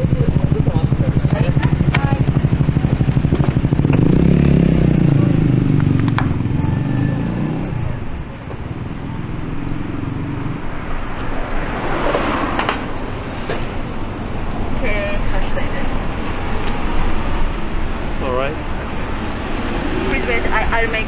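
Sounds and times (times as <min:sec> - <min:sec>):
traffic noise: 0:00.0 - 0:21.0
vehicle engine rumbling: 0:00.0 - 0:21.0.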